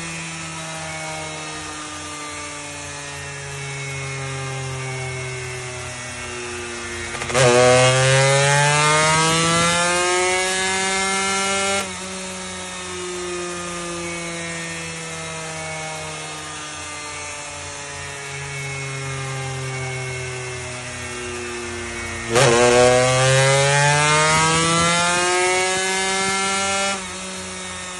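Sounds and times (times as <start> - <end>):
small motorcycle engine revving: 0.0 - 27.9.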